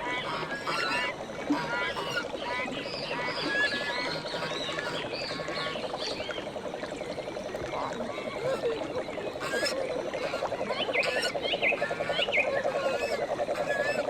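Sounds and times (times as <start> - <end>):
fast pulsing animal chorus: 0.0 - 14.0.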